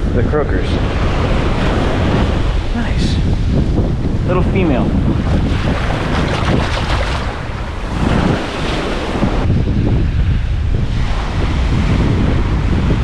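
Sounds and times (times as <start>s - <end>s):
wind buffeting microphone: 0.0s - 13.0s
surf breaking on beach: 0.8s - 13.0s.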